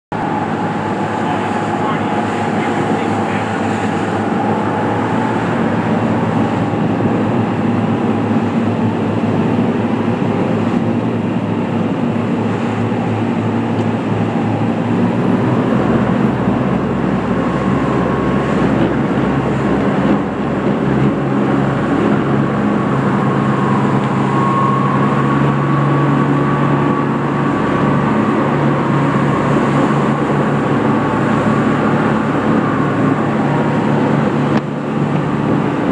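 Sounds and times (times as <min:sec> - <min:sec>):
powerboat engines running hard: 0:00.1 - 0:35.9
rushing water: 0:00.1 - 0:35.9.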